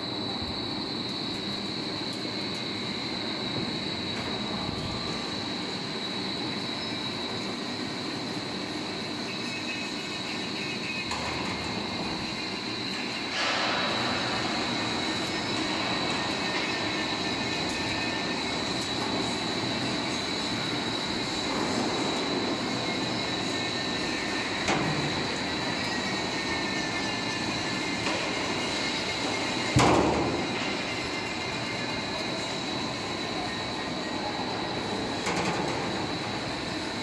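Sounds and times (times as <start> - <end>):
roll forming machine running: 0.0 - 37.0.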